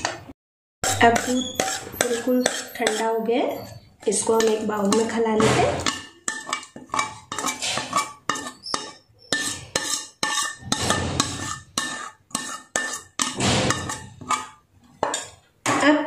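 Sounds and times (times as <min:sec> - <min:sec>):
metal spoon scraping metal pan: 0:00.8 - 0:15.4.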